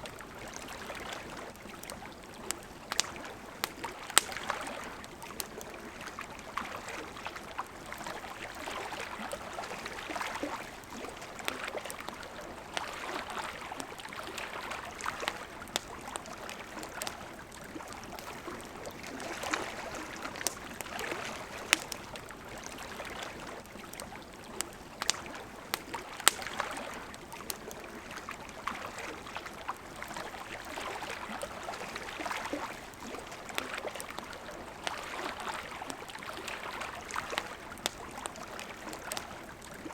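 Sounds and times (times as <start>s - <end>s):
campfire crackling: 0.0s - 39.9s
river water flowing: 0.0s - 39.9s.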